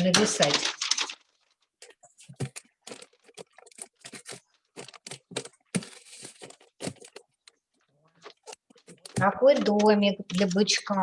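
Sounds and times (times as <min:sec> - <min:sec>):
paper crinkling: 0:00.0 - 0:09.7.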